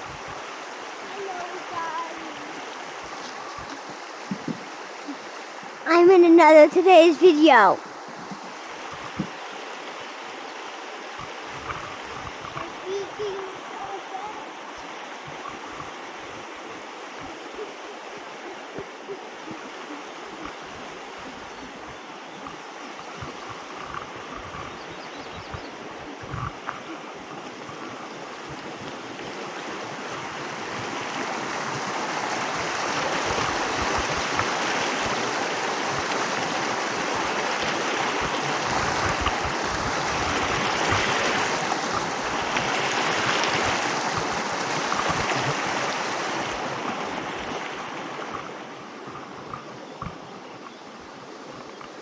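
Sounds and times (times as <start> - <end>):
creek rushing over rocks: 0.0 - 52.0.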